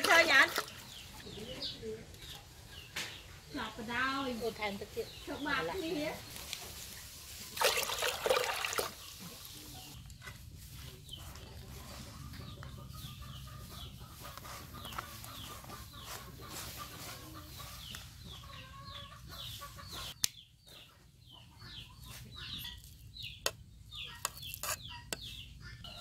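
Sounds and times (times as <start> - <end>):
chickens chirping and clucking: 0.0 - 7.6, 8.8 - 26.0.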